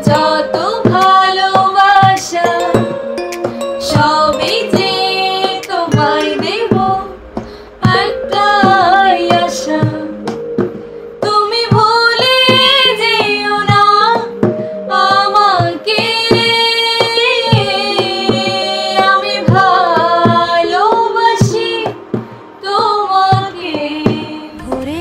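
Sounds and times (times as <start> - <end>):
backing track with drum beat: 0.0 - 25.0
women singing together: 0.0 - 25.0.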